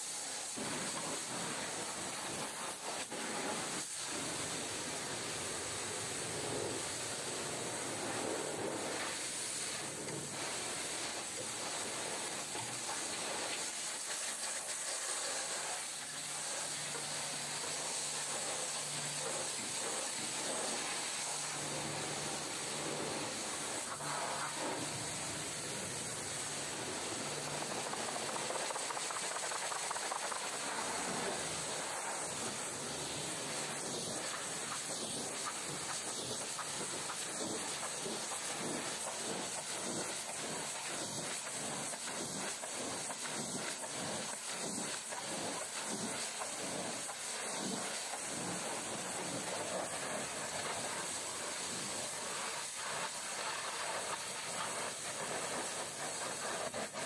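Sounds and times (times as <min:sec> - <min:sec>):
pressure washer spraying water: 0:00.0 - 0:57.0.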